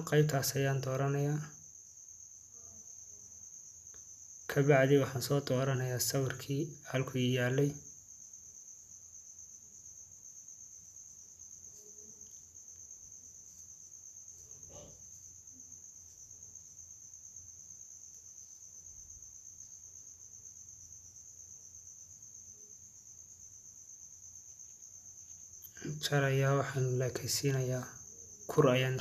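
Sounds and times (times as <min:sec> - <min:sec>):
low hiss: 0:00.0 - 0:29.0.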